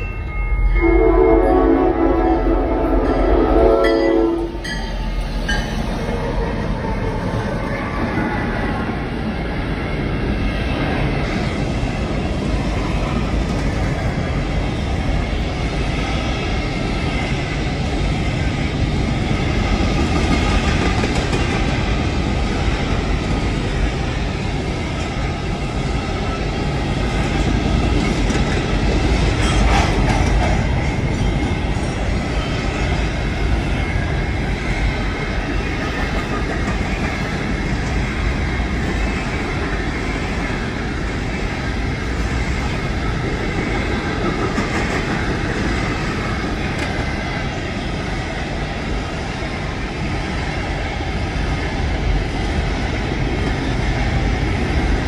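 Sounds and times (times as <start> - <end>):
train wheels clattering on rails: 9.4 - 55.0.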